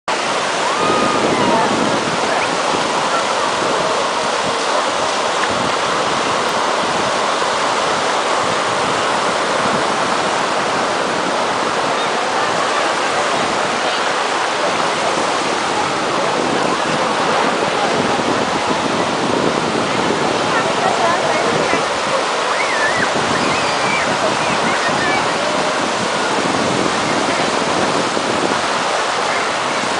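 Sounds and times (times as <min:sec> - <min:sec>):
sea water rushing: 0:00.1 - 0:29.9
wind on microphone: 0:00.1 - 0:29.9.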